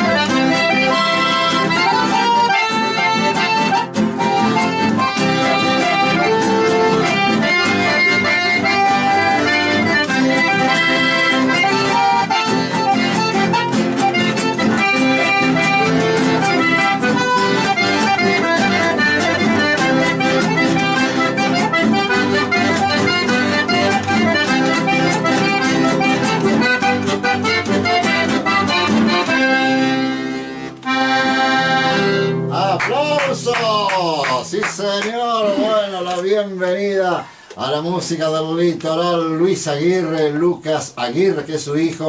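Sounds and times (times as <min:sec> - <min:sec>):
accordion folk music: 0:00.0 - 0:42.0.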